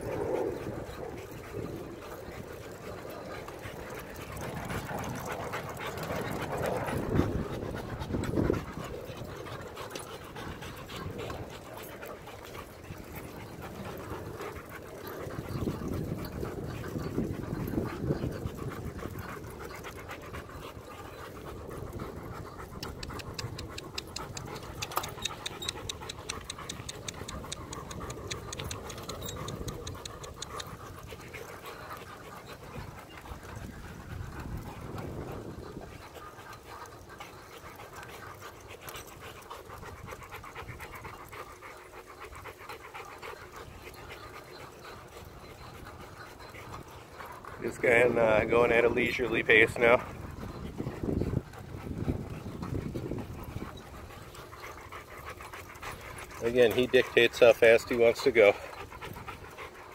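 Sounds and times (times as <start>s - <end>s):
dog panting: 0.0s - 59.9s.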